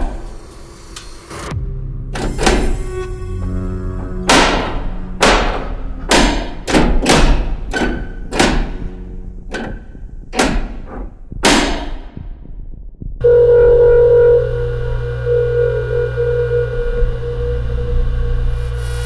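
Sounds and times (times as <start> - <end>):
heavy reverberant impacts: 2.0 - 17.8.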